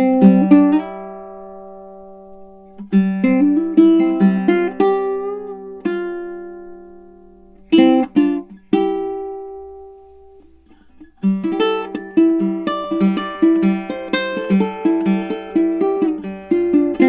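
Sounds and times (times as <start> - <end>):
ukulele fingerpicked: 0.0 - 17.0.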